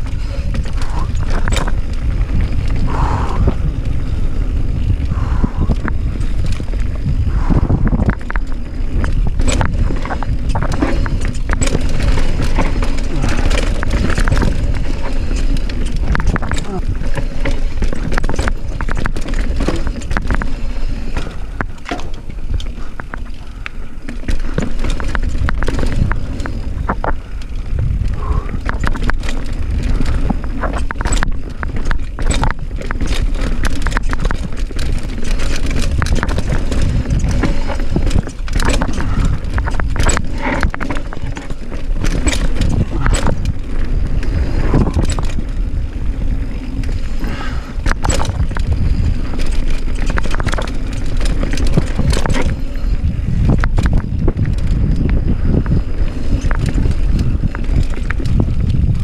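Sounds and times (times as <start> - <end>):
bike clicking and clattering: 0.0 - 59.0
bike tyres rumbling over ground: 0.0 - 59.0.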